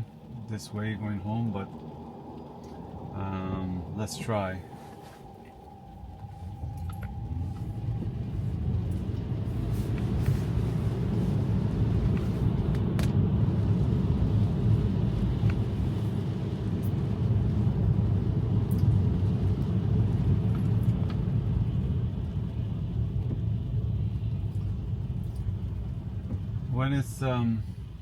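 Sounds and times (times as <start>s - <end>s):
tyre and road noise: 0.0s - 28.0s.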